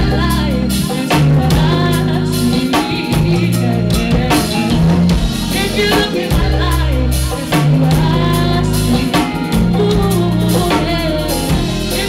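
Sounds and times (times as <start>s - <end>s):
bass: 0.0s - 12.0s
drum kit: 0.0s - 12.0s
guitar: 0.0s - 12.0s
person singing: 0.0s - 12.0s.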